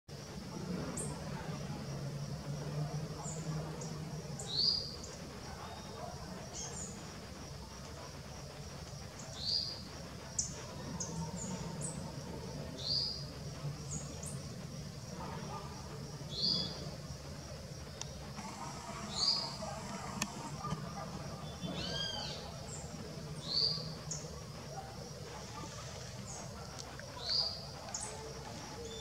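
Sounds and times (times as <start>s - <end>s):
high-pitched hiss: 0.1s - 29.0s
songbirds chirping: 0.1s - 29.0s.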